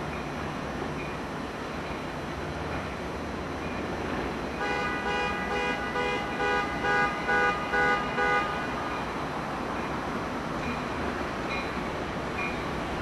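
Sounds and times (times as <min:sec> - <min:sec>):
railroad warning signal pulsing: 0:00.0 - 0:13.0.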